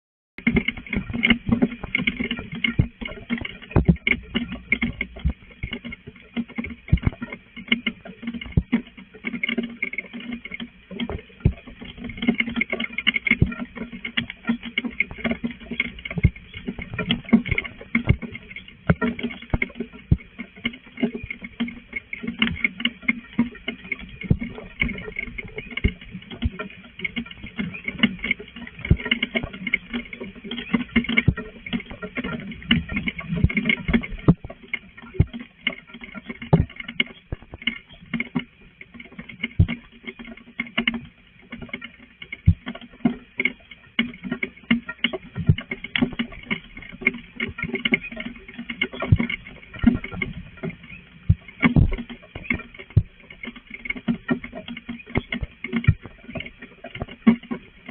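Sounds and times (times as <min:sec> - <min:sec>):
rain drops pattering: 0:00.4 - 0:57.9.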